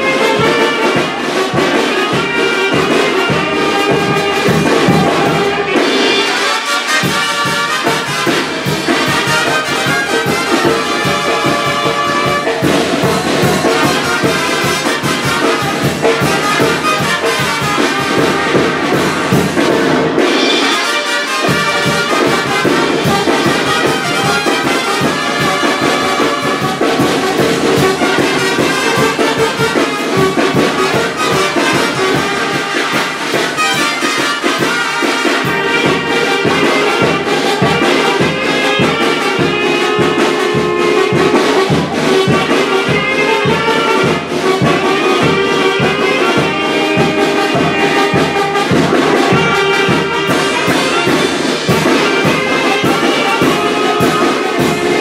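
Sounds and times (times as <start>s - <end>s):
brass band music: 0.0s - 55.0s.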